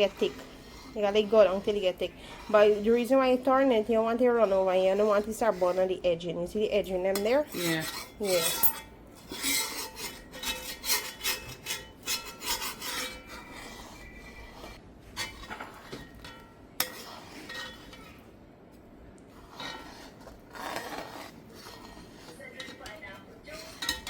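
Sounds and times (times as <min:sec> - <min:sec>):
spoon scraping a pot: 0:00.0 - 0:18.4, 0:19.3 - 0:24.0.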